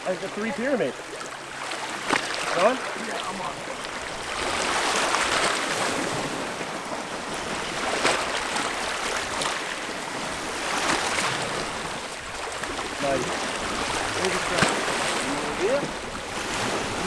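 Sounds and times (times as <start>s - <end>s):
waves splashing on rocks: 0.0s - 17.0s.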